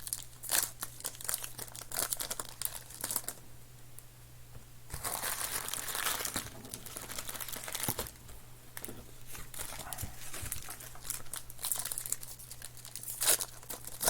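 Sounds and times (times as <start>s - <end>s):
foil wrappers crinkling: 0.0s - 3.4s, 4.9s - 14.0s
faint low hum: 0.0s - 14.0s.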